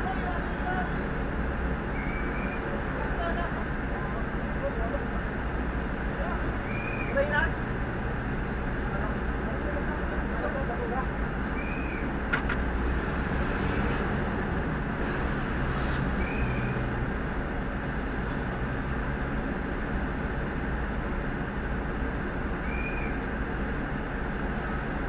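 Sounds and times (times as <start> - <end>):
fire truck engine rumbling: 0.0 - 25.0.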